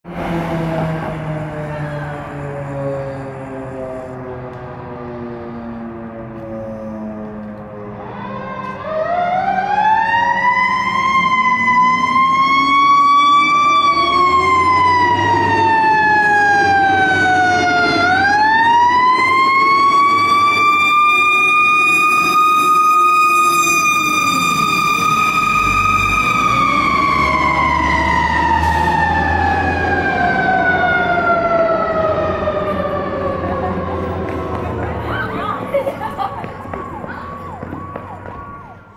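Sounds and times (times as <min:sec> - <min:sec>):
truck engine rumbling: 0:00.0 - 0:38.9
mechanical siren wailing: 0:00.1 - 0:34.3, 0:36.6 - 0:38.9.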